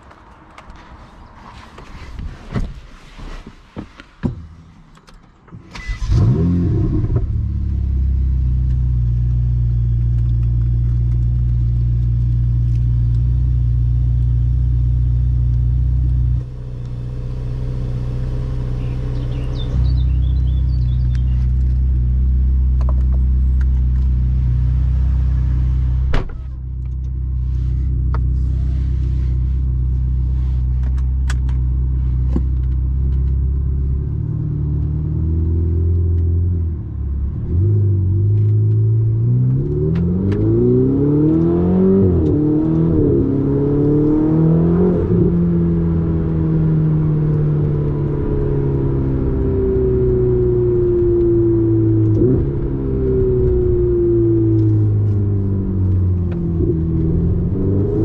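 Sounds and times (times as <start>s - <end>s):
car engine heard from cabin: 1.5s - 58.0s.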